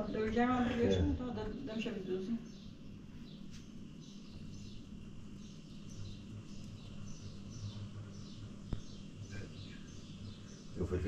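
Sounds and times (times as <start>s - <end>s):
bird chirping: 0.0s - 11.0s
low steady hum: 0.0s - 11.0s.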